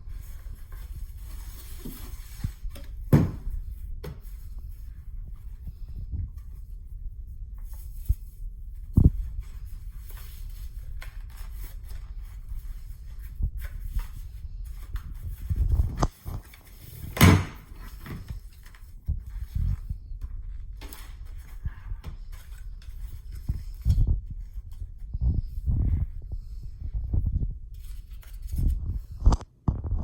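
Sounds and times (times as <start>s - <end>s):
box and packaging handled: 0.0s - 6.9s, 7.6s - 29.3s.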